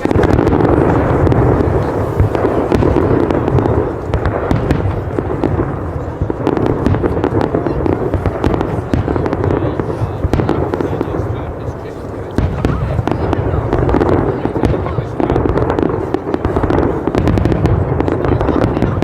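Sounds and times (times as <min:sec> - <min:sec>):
fireworks barrage: 0:00.0 - 0:19.0.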